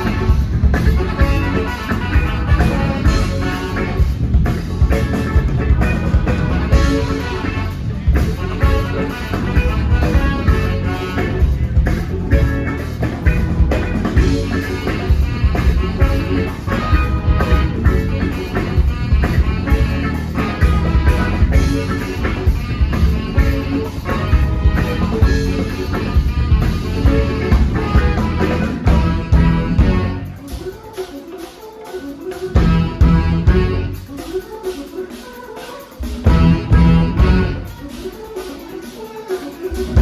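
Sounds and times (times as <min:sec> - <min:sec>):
live band playing instrumental: 0:00.0 - 0:40.0
steady drum beat: 0:00.0 - 0:40.0.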